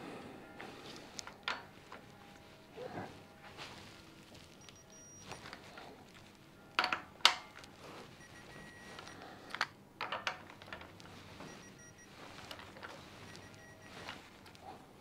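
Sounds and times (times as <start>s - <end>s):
faint high steady tones: 0.0s - 9.5s, 11.2s - 14.8s.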